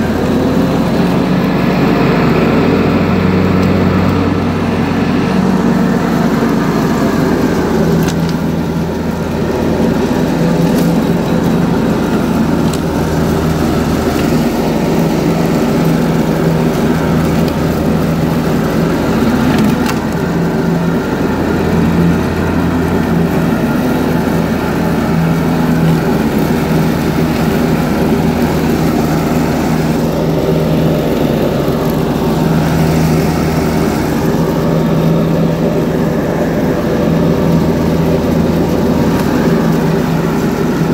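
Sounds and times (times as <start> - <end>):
garden tractor engine and mower running: 0.0 - 40.9.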